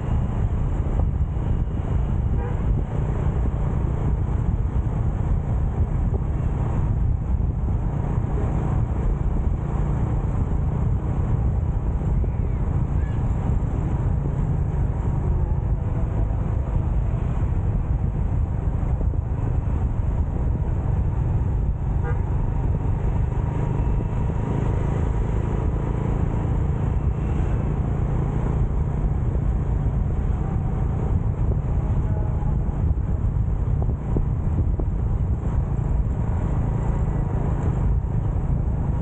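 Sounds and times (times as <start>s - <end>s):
faint passing traffic: 0.0s - 39.0s
wind and road noise: 0.0s - 39.0s.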